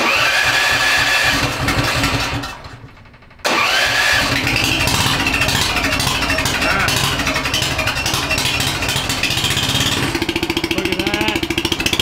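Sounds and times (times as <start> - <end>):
single-cylinder engine running: 0.0 - 12.0.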